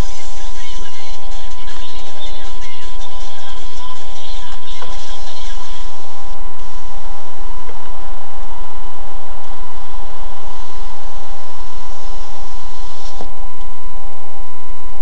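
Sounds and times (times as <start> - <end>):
electrical buzz with whine: 0.0 - 15.0.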